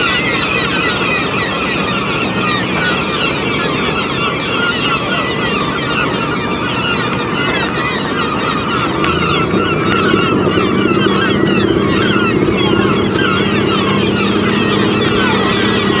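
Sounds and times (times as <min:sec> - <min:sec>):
boat motor droning: 0:00.0 - 0:16.0
gulls screeching: 0:00.0 - 0:16.0.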